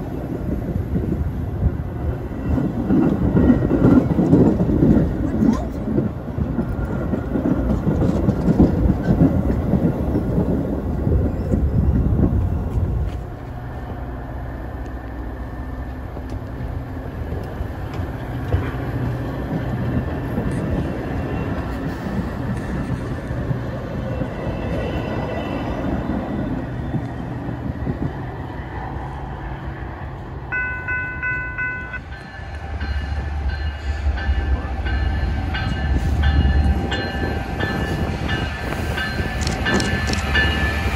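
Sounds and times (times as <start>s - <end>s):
diesel locomotive rumble: 0.0s - 40.9s
train cars rattling past: 0.0s - 40.9s.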